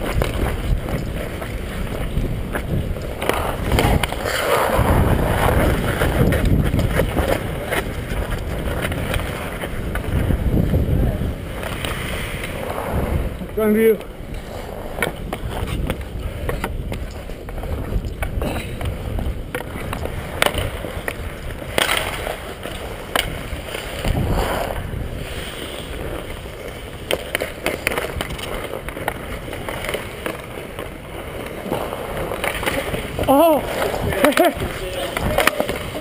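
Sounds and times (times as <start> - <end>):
hockey sticks and puck clacking: 0.0 - 10.8, 11.4 - 36.0
ice skate blades scraping: 0.0 - 36.0.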